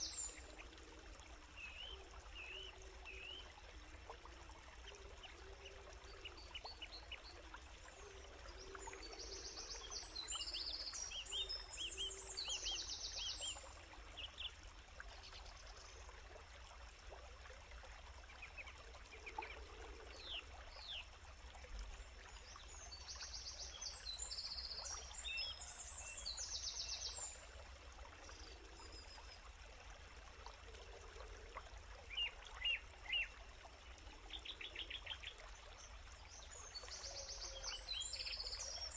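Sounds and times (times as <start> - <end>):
faint stream: 0.0 - 38.9.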